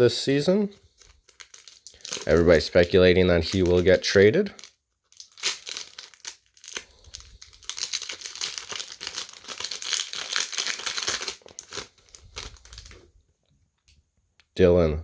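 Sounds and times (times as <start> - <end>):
wrapper tearing and crinkling: 0.8 - 13.1.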